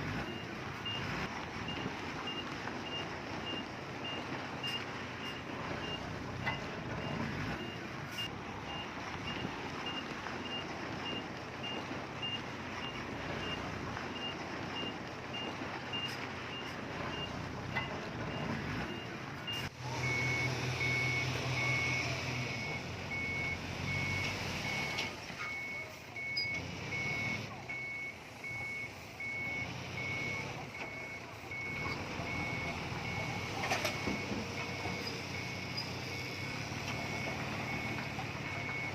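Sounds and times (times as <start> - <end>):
diesel engines running: 0.0 - 38.9
reversing alarm beeping: 1.7 - 38.9.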